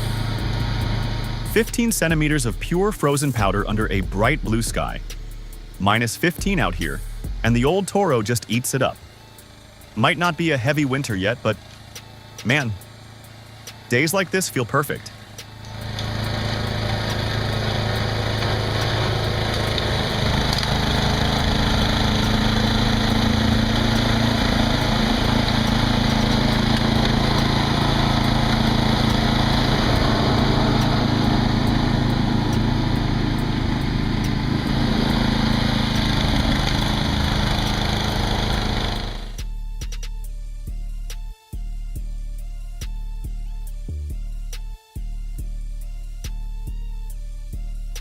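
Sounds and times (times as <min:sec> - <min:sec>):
snowblower engine running: 0:00.0 - 0:39.5.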